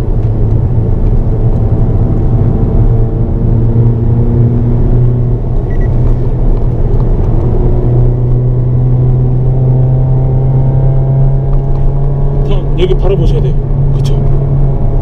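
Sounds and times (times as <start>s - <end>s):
car engine from inside cabin: 0.0s - 15.0s
tyre and road noise: 0.0s - 15.0s.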